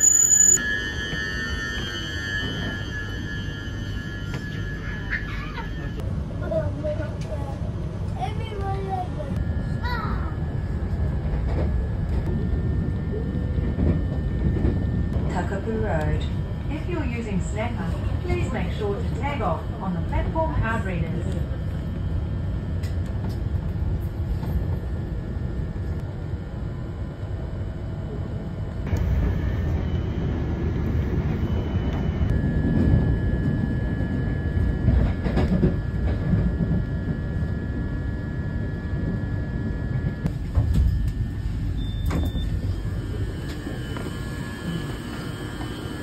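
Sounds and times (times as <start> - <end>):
steady high whine: 0.0 - 6.9, 7.9 - 46.0
train wheels rumbling on rails: 0.6 - 46.0.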